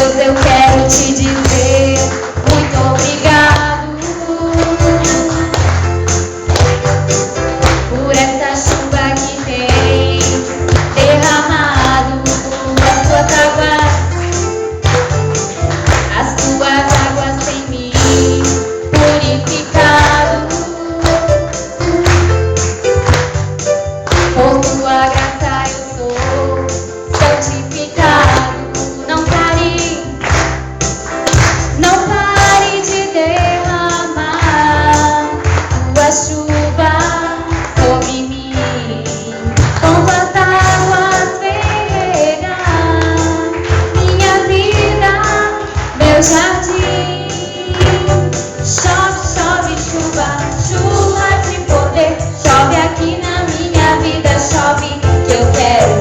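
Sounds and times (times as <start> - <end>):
instrumental accompaniment: 0.0 - 56.0
tambourine beat: 0.0 - 56.0.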